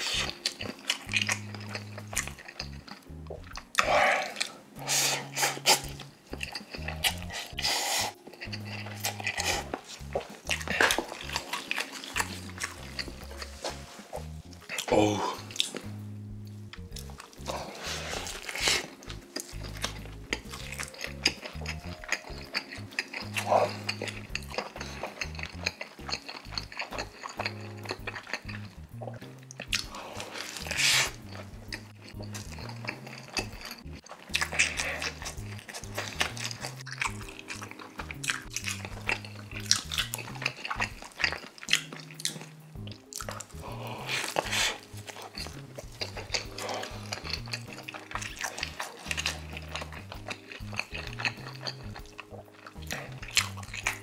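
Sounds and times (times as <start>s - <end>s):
background music: 0.0s - 54.0s
biting and chewing sandwich: 0.0s - 54.0s.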